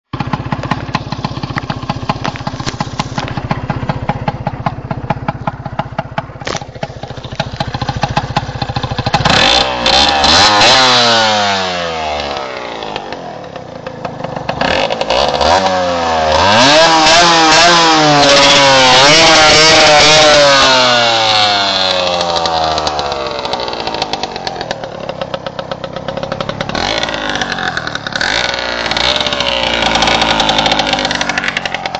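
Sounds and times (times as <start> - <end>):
motorcycle engine revving: 0.1 - 31.9.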